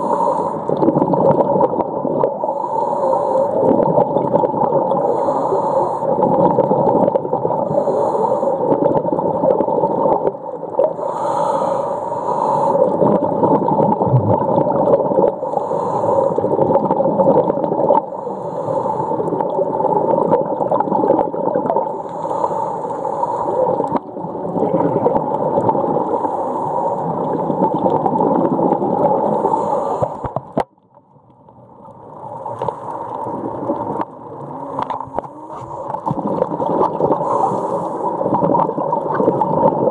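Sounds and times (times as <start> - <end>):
water gurgling and rushing: 0.0 - 8.0, 8.6 - 11.4, 12.7 - 30.7, 32.0 - 39.9
steady underwater drone: 0.0 - 39.9.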